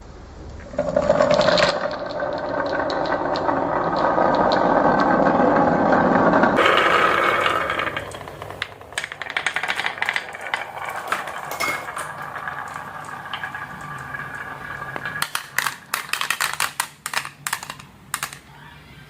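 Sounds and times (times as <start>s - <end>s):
marbles rolling along track: 0.6s - 18.6s
marbles clicking and clacking: 0.8s - 18.5s.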